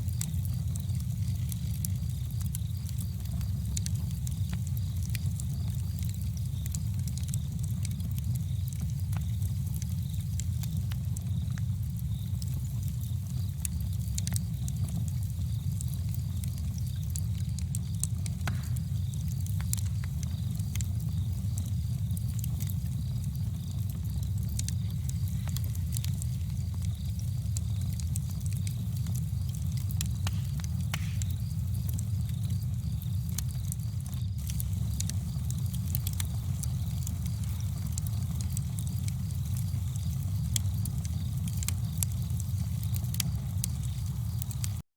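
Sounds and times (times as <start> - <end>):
campfire crackling and popping: 0.0 - 44.8
fire low rumble: 0.0 - 44.8.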